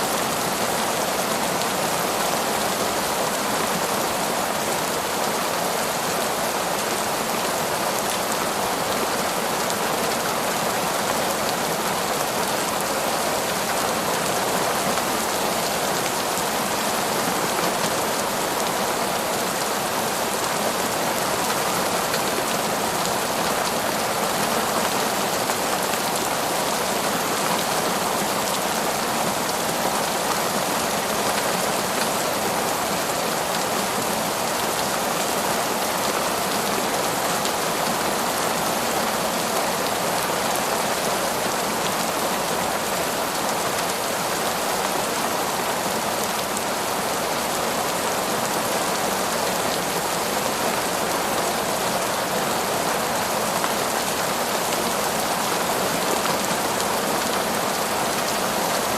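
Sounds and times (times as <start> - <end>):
heavy torrential rain: 0.0 - 58.9.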